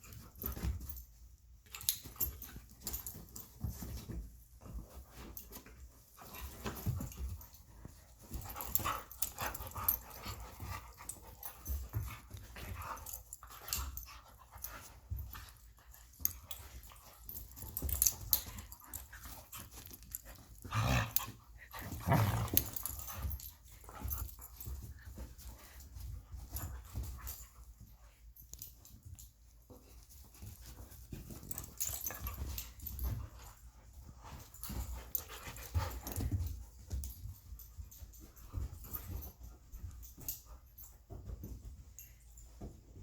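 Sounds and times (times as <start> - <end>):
puppies scuffling: 0.0 - 43.0.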